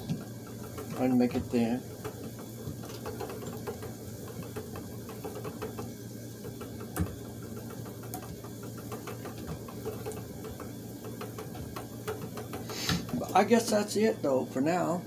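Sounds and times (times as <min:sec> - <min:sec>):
spinning wheel whirring: 0:00.0 - 0:15.0.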